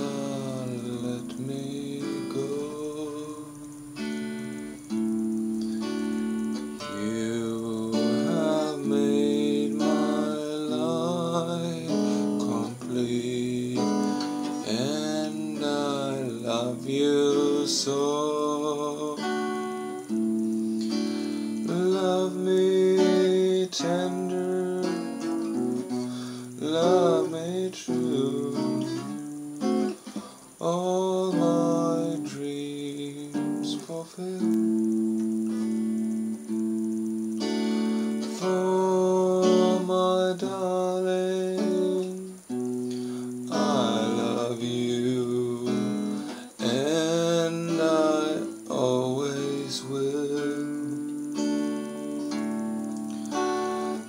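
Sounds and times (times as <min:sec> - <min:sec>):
man singing: 0:00.0 - 0:04.7, 0:06.8 - 0:20.2, 0:20.8 - 0:35.2, 0:38.2 - 0:51.5
electric guitar strumming chords: 0:00.0 - 0:54.0.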